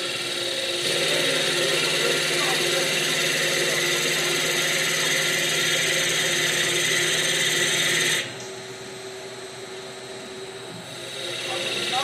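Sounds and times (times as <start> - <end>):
wood lathe machine whine: 0.0 - 12.0.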